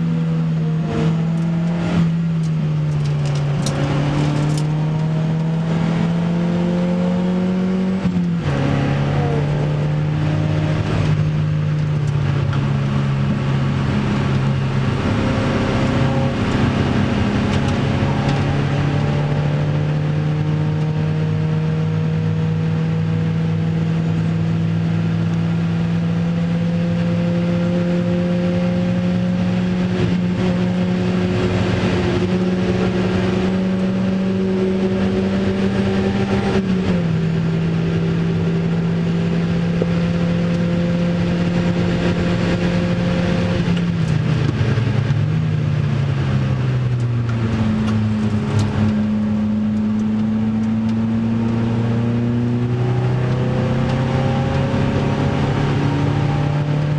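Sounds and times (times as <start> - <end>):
car engine at full throttle: 0.0 - 56.9.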